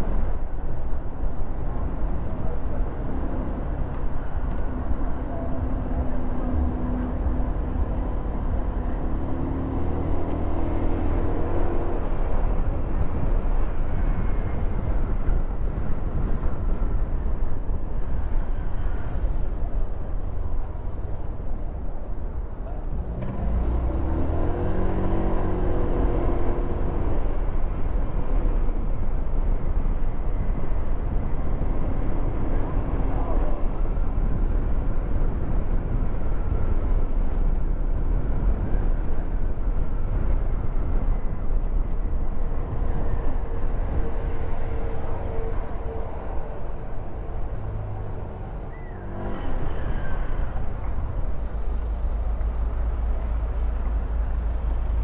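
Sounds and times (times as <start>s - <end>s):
vehicle low rumble: 0.0s - 55.0s.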